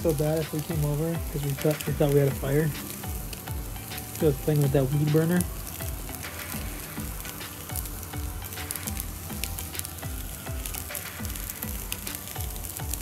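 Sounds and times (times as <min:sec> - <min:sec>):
background music with beat: 0:00.0 - 0:13.0
coals crackling and popping: 0:00.0 - 0:13.0
steaks sizzling on grill: 0:00.0 - 0:13.0.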